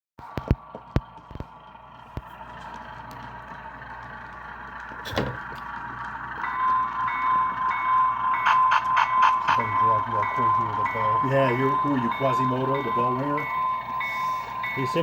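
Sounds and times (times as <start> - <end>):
model train hum: 0.3 - 15.0.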